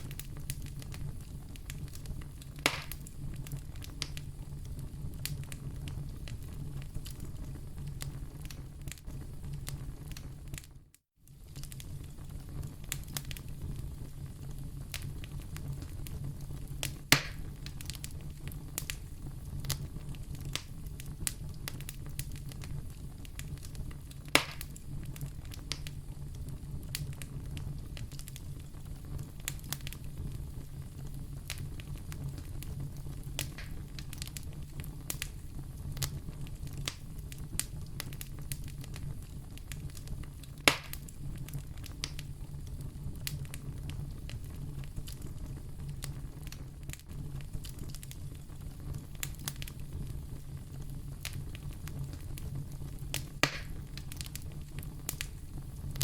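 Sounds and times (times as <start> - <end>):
loud fire pops: 0.0 - 10.7, 11.3 - 56.0
wood fire crackling: 0.0 - 56.0.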